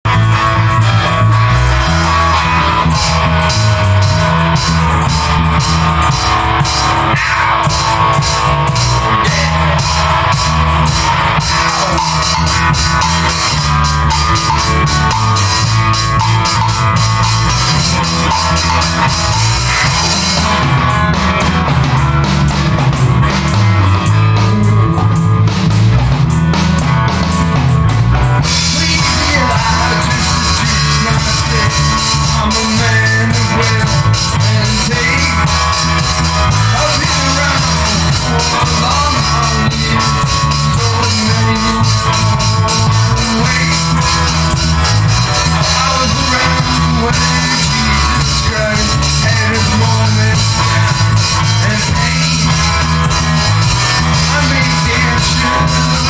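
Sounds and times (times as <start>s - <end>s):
bass line: 0.0s - 56.0s
drum kit beat: 0.0s - 56.0s
guitar: 0.0s - 56.0s.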